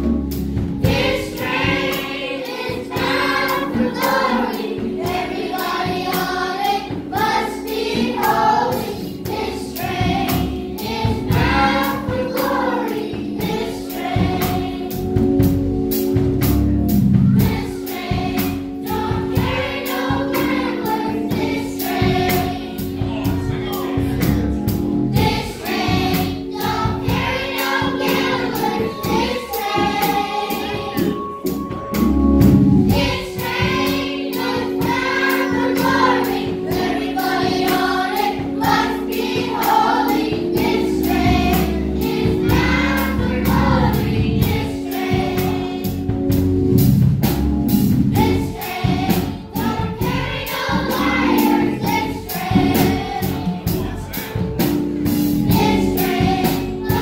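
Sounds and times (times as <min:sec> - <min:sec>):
children's choir singing: 0:00.0 - 0:15.9, 0:17.3 - 0:32.1, 0:32.7 - 0:46.3, 0:48.1 - 0:54.5, 0:55.1 - 0:57.0
steady beat: 0:00.0 - 0:57.0.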